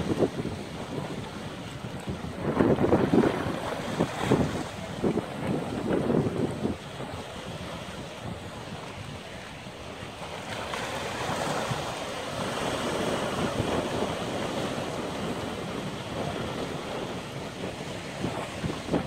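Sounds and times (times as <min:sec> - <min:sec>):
ocean surf breaking on rocks: 0:00.0 - 0:19.0
wind buffeting microphone: 0:00.0 - 0:19.0.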